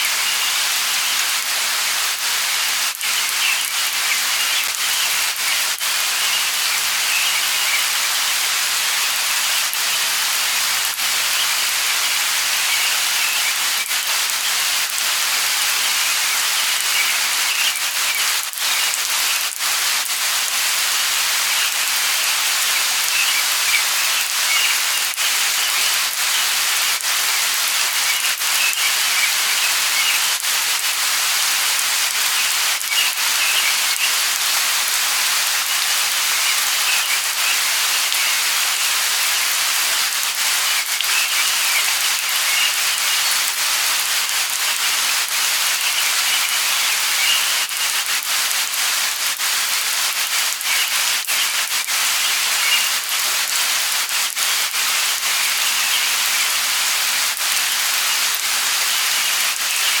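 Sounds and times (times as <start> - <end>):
light rain falling: 0.0 - 60.0.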